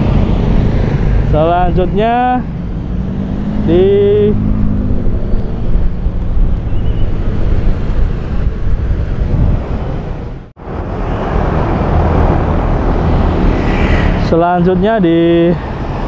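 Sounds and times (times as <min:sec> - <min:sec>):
cars and motorcycles passing: 0:00.0 - 0:16.0.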